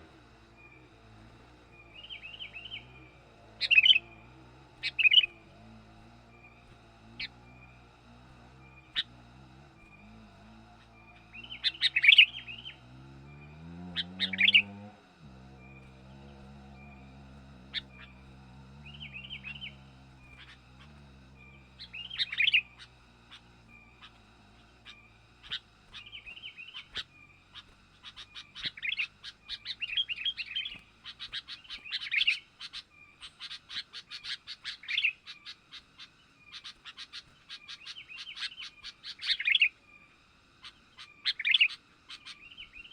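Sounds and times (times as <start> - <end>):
low motor hum: 0.0 - 41.1
bulbuls chirping: 0.0 - 42.9.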